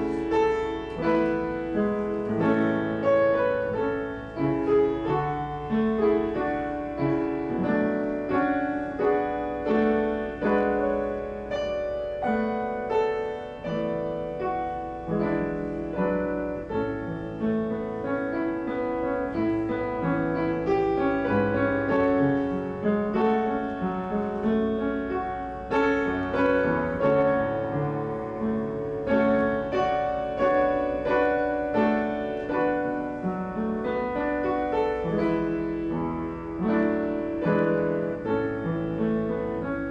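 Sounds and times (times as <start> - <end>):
slow piano piece: 0.0 - 39.9.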